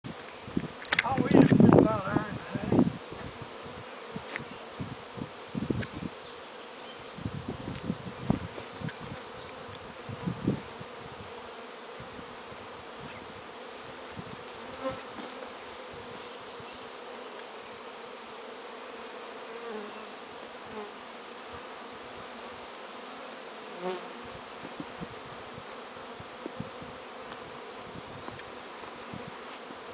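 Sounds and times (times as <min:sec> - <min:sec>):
bees buzzing: 0:00.1 - 0:29.9.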